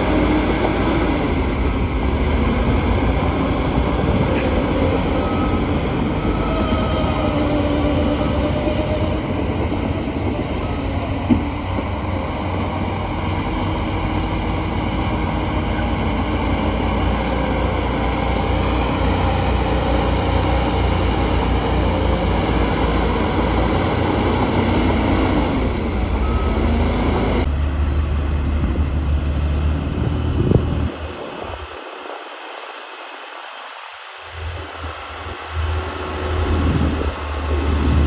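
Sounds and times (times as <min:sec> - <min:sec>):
diesel machinery engine drone: 0:00.0 - 0:38.0.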